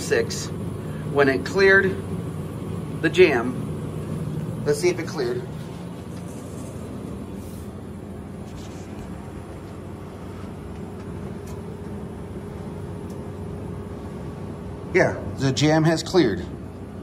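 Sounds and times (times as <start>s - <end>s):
vending machine humming: 0.0s - 17.0s.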